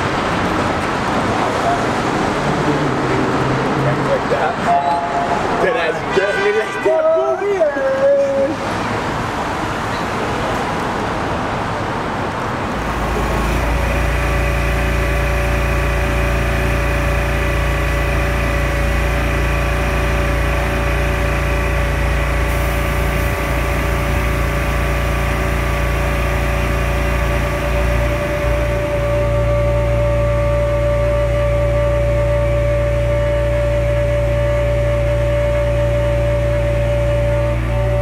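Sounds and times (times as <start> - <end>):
engine-like hum with held tones: 0.0 - 38.0
road traffic: 0.0 - 38.0.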